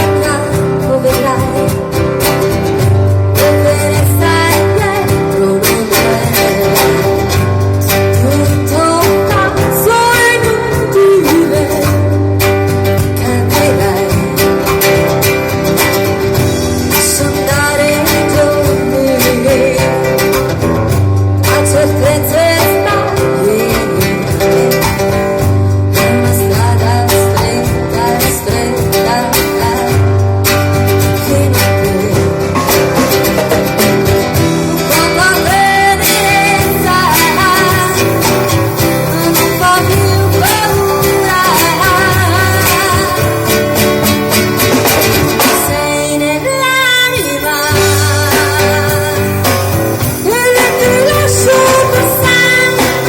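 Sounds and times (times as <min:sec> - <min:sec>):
drum and percussion hits: 0:00.0 - 0:45.9, 0:47.2 - 0:53.0
strummed acoustic guitars: 0:00.0 - 0:53.0
woman singing: 0:00.0 - 0:53.0.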